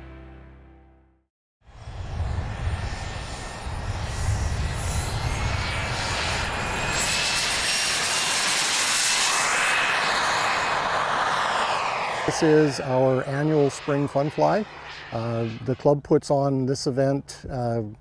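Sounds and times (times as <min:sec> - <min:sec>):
model jet turbine whining: 0:01.7 - 0:17.4.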